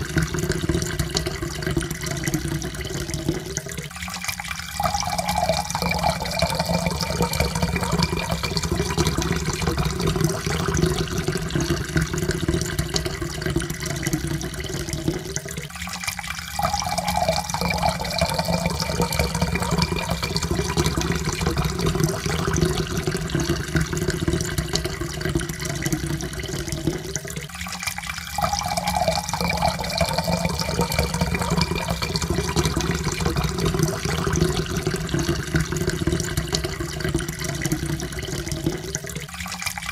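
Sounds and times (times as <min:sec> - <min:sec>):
water pouring into a cup: 0:00.0 - 0:39.9.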